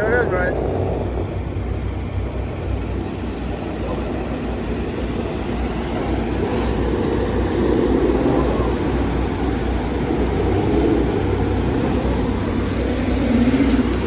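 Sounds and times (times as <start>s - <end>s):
car interior engine and road noise: 0.0s - 14.0s.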